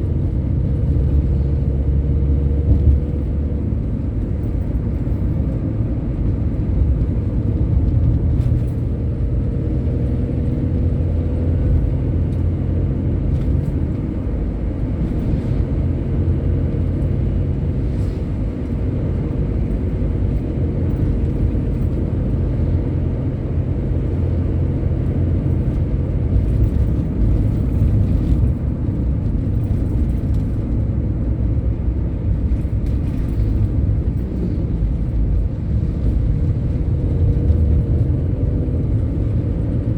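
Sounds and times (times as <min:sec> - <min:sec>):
vehicle driving at speed: 0:00.0 - 0:39.9.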